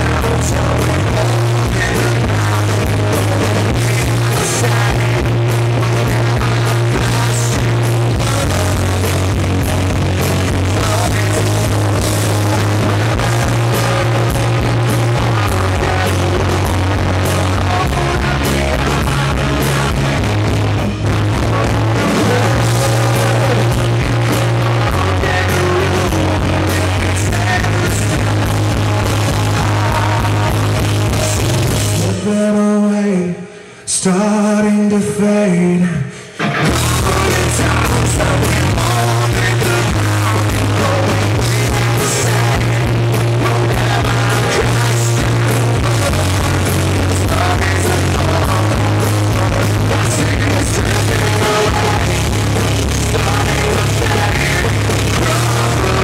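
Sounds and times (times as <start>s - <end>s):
heavy bass notes: 0.0s - 33.2s, 36.1s - 56.0s
live rock band playing: 0.0s - 33.8s, 34.9s - 56.0s
male lead singer: 0.0s - 56.0s.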